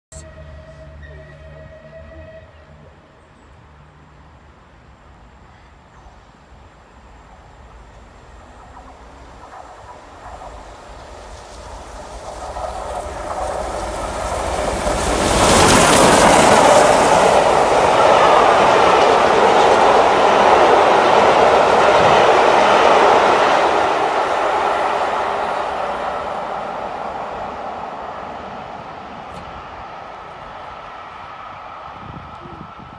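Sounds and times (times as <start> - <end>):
steam locomotive passing at speed: 0.1 - 32.9
train wheels on rails: 4.2 - 32.9.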